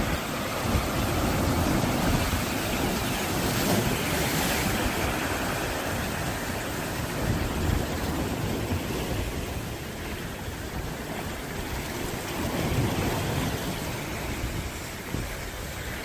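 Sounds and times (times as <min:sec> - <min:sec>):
waves breaking on rocks: 0:00.0 - 0:16.0
wind buffeting microphone: 0:00.0 - 0:16.0.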